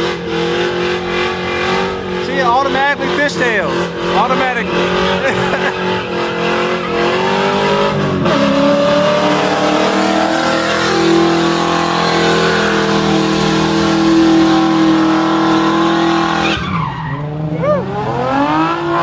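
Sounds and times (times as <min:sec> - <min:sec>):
car engine at high revs: 0:00.0 - 0:19.0
tires spinning on asphalt: 0:00.0 - 0:19.0.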